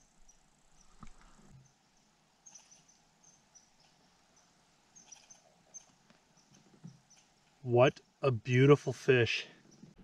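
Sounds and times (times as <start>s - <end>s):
faint high-pitched chirps: 0.0s - 8.2s.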